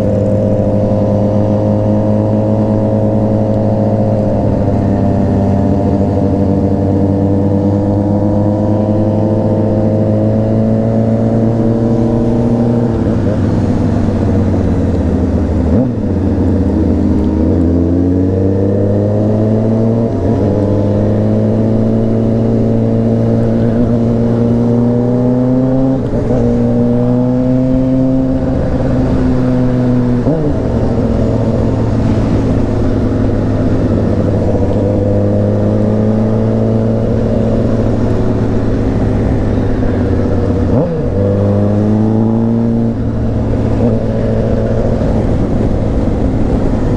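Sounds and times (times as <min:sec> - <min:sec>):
motorcycle engine revving through gears: 0:00.0 - 0:46.9.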